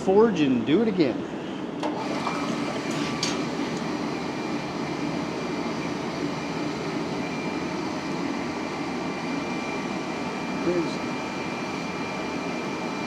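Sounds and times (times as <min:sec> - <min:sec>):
gas forge burner rushing: 0:01.2 - 0:13.0.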